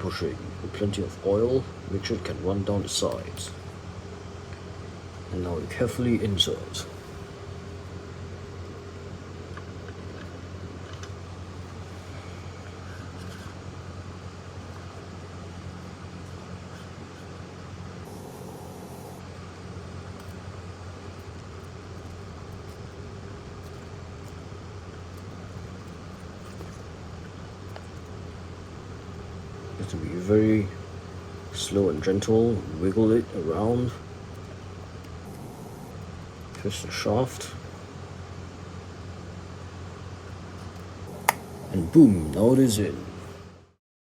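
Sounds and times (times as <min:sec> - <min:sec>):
steady low hum: 0:00.0 - 0:43.8.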